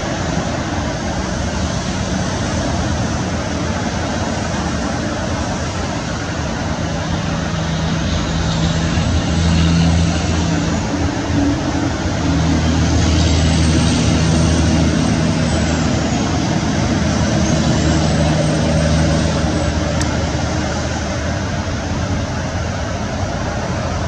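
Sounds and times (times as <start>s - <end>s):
low engine drone: 0.0s - 24.0s
traffic noise: 0.0s - 24.0s.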